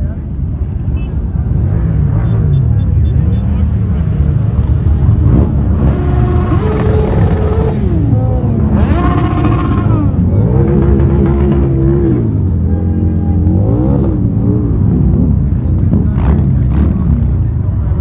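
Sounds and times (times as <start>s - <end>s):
motorcycle engines revving: 0.0s - 18.0s
motorcycles engine rumble: 0.0s - 18.0s.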